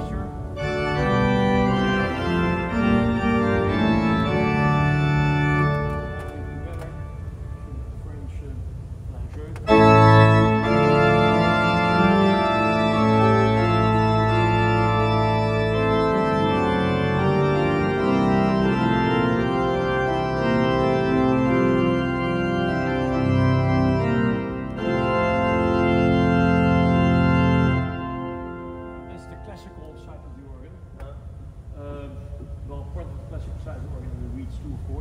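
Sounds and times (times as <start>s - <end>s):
pipe organ chords: 0.0s - 35.0s.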